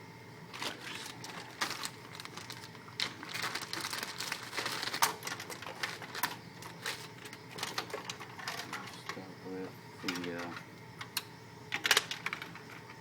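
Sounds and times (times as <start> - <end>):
computer parts clicking and rattling: 0.6 - 9.2, 10.0 - 13.0.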